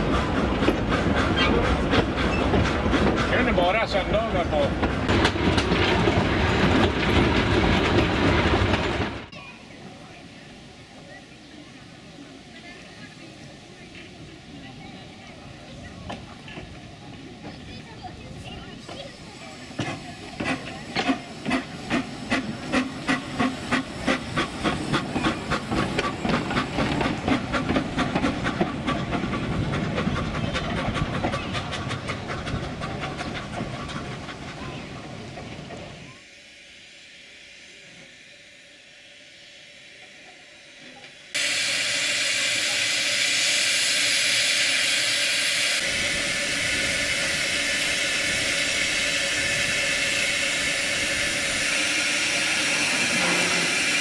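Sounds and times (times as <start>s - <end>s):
steam locomotive chuffing: 0.0s - 54.0s
loud hiss of escaping steam: 8.1s - 54.0s.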